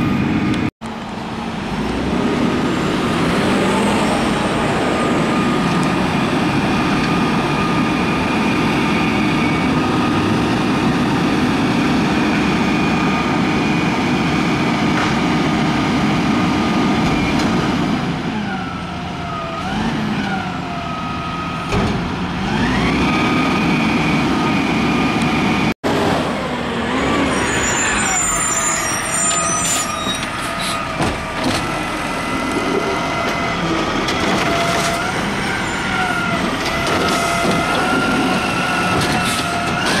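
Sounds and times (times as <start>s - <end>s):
garbage truck engine and hydraulics whining: 0.0s - 40.0s.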